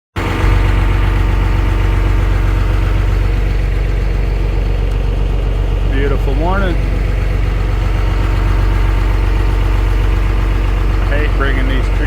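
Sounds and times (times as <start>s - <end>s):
engine drone: 0.2s - 12.0s.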